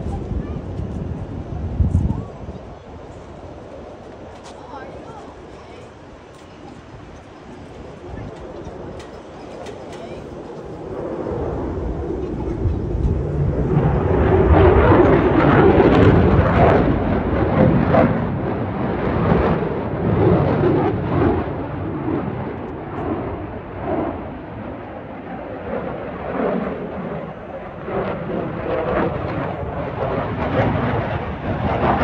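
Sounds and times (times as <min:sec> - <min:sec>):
jet rumble passing overhead: 0:00.0 - 0:32.0.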